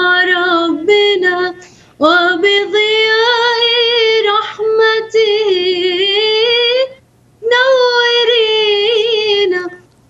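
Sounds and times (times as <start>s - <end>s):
woman singing unaccompanied: 0.0s - 9.9s.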